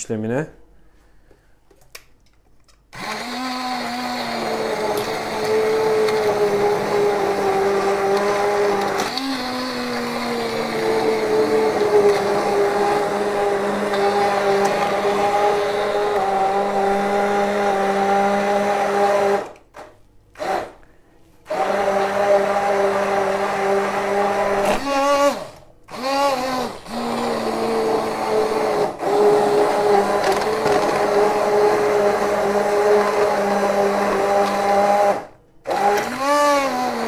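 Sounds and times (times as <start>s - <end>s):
immersion blender motor running: 3.0s - 19.6s, 20.4s - 20.8s, 21.5s - 37.0s.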